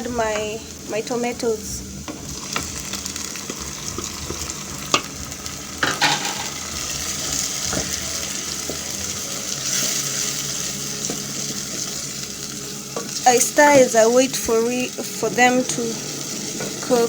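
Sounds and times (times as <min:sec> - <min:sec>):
onions sizzling in a pan: 0:00.0 - 0:17.0.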